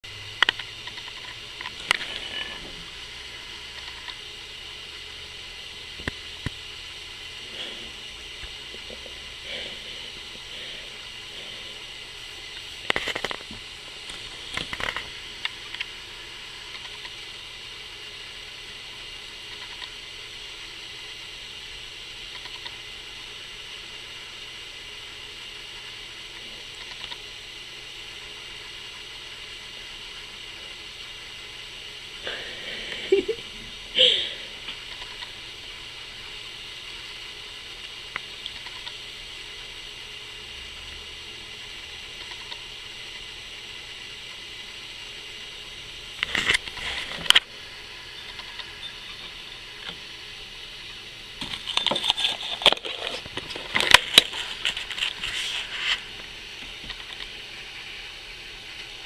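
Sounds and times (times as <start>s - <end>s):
steady hiss: 0.1s - 59.0s.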